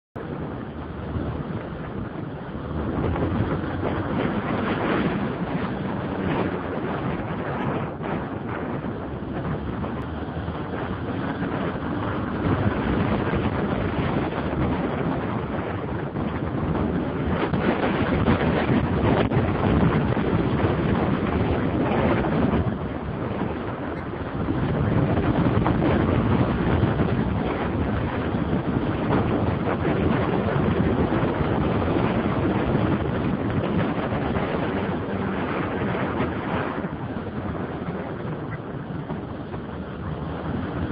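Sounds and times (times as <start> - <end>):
wind buffeting microphone: 0.2 - 40.9.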